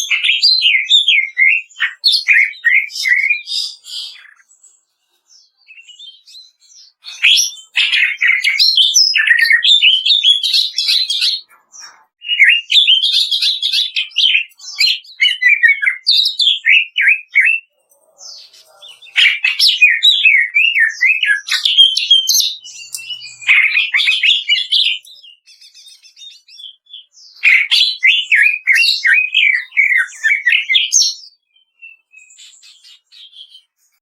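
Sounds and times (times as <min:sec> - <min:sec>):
bird singing sharp rapid phrases: 0:00.0 - 0:34.0.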